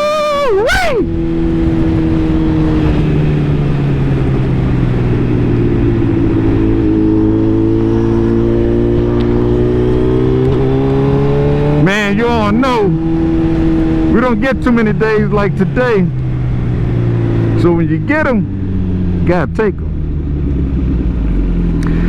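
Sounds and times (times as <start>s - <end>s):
motorcycle engine cruising: 0.0s - 22.0s
road noise: 0.0s - 22.0s
wind noise: 0.0s - 22.0s.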